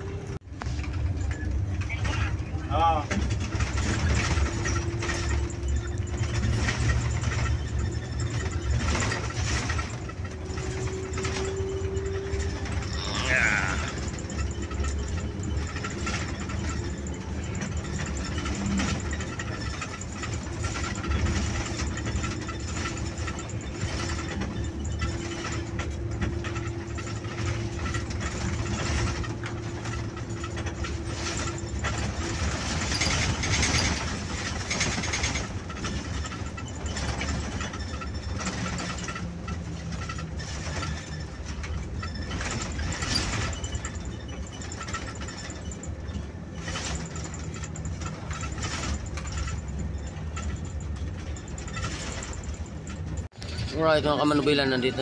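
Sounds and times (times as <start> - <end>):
bus engine running: 0.0 - 55.0
road noise: 0.0 - 55.0
small rattles: 0.7 - 55.0.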